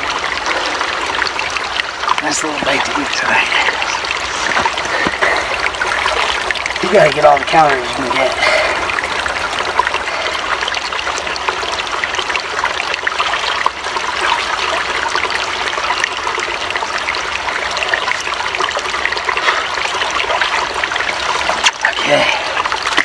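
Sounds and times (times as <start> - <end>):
creek trickling and babbling: 0.0 - 23.0.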